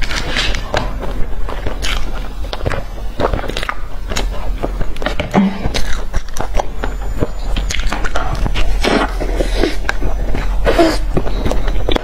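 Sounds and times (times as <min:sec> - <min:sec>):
wet chewing clicks: 0:00.0 - 0:12.0.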